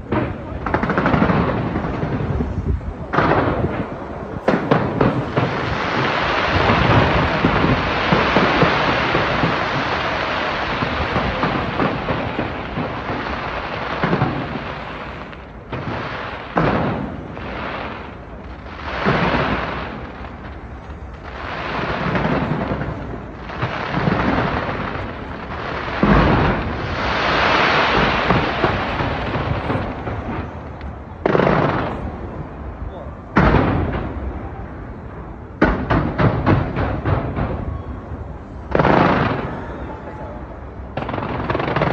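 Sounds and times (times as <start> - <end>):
fireworks booms: 0.0 - 41.9
fireworks crackling: 0.0 - 41.9.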